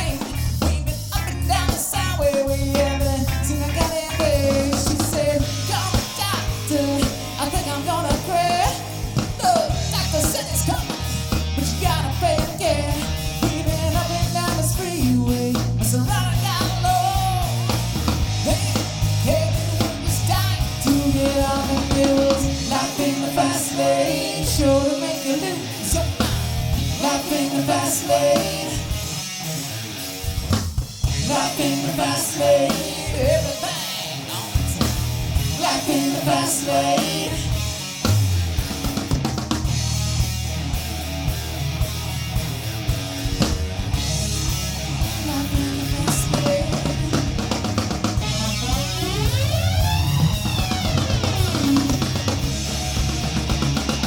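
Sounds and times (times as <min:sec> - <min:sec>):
bass guitar: 0:00.0 - 0:54.0
drum kit steady beat: 0:00.0 - 0:54.0
electric guitar: 0:00.0 - 0:54.0.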